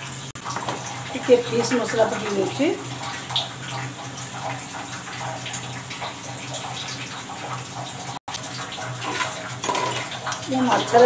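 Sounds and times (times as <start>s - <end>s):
gravy sizzling in frying pan: 0.0s - 11.0s.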